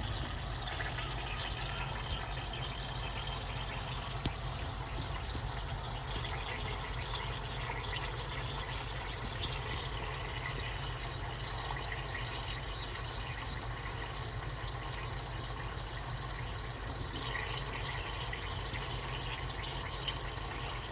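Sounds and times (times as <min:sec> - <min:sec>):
dry ice bubbling hiss in water: 0:03.4 - 0:20.9.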